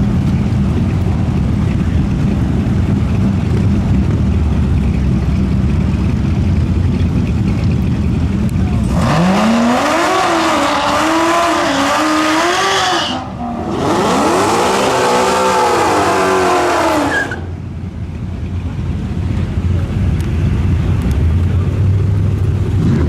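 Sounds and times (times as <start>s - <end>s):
car engine revving at full throttle: 0.0s - 23.0s.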